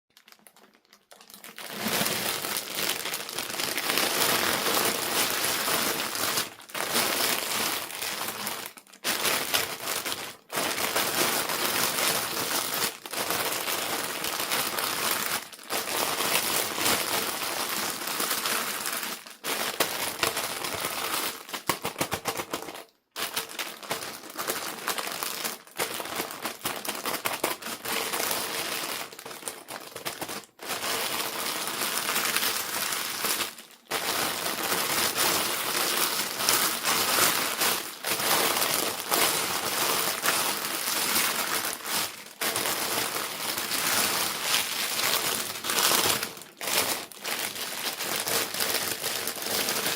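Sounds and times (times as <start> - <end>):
plastic packaging crinkling: 0.1 - 49.9.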